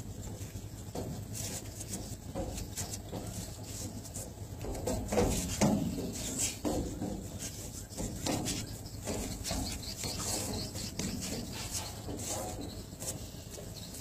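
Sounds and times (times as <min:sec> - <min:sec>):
footwork scuffs and rubbing: 0:00.0 - 0:14.0.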